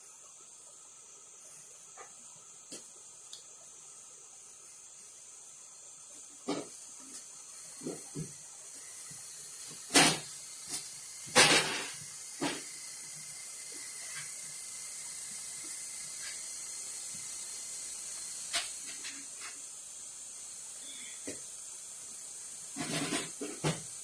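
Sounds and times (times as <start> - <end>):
fizzy drink hiss: 1.0 - 24.0.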